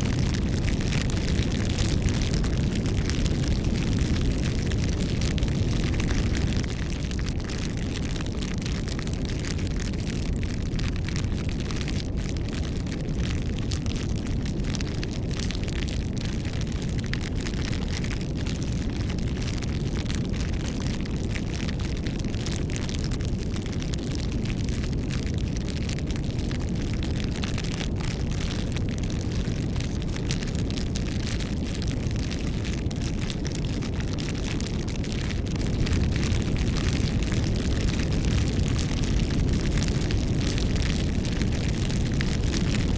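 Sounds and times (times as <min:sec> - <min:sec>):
bonfire flames rumbling: 0:00.0 - 0:42.9
burning wood crackling: 0:00.0 - 0:42.9.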